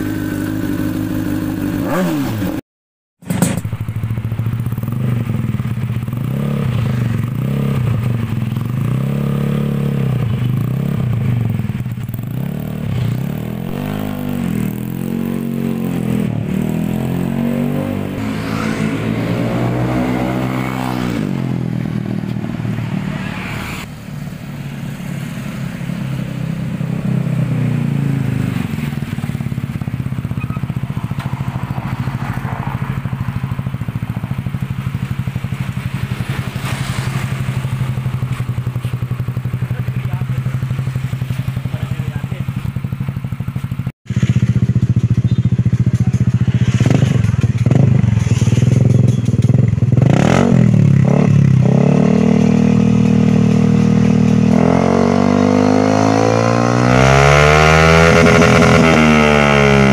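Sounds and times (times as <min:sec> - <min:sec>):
scooter engine revving and idling: 0:00.0 - 0:02.6, 0:03.2 - 0:24.0, 0:24.6 - 0:59.9.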